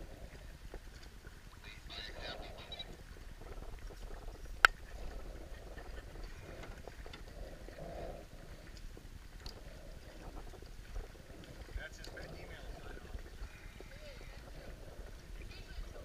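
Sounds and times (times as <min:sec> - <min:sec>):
paddles swishing through water: 0:00.0 - 0:16.0.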